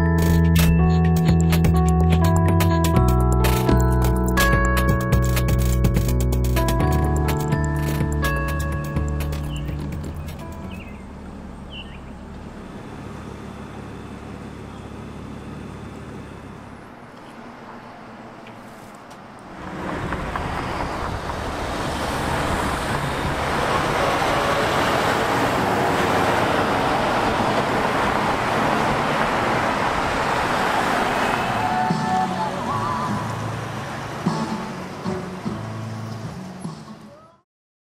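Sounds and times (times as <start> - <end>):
passing vehicles road noise: 0.0 - 37.3
low steady traffic hum: 5.2 - 37.4.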